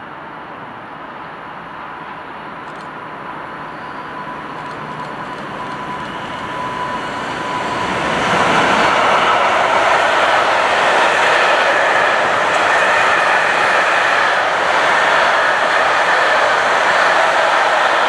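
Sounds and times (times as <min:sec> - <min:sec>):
train approaching: 0:00.0 - 0:18.0.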